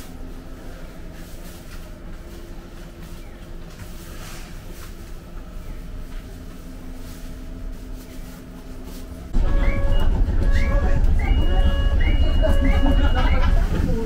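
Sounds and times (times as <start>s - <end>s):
tram rumble: 0.0s - 14.0s.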